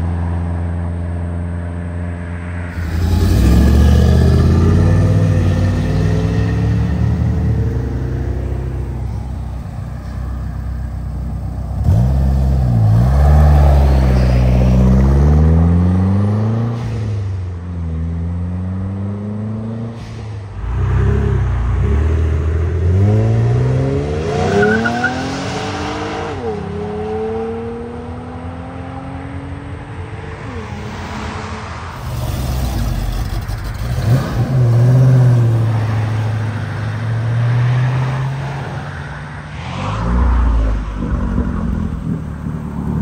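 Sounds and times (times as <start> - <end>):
car engines revving accelerating: 2.7 - 43.0.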